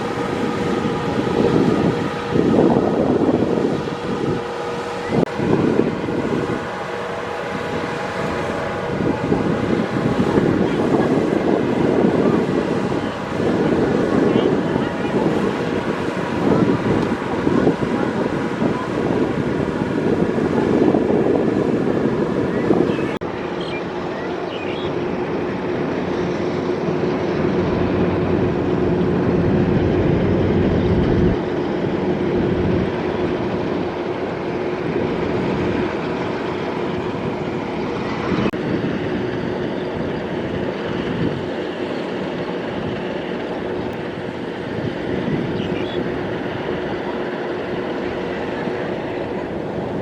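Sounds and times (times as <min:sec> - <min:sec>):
combine harvester droning: 0:00.0 - 0:50.0.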